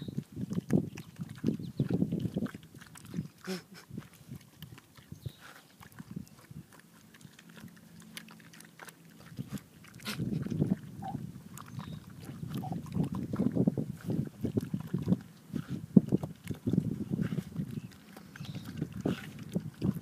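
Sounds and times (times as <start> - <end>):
pig chomping wetly: 0.0 - 20.0.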